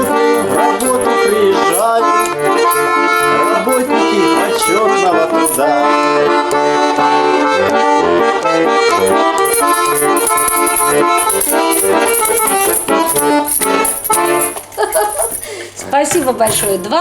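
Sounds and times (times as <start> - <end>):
button accordion playing chords: 0.0 - 17.0.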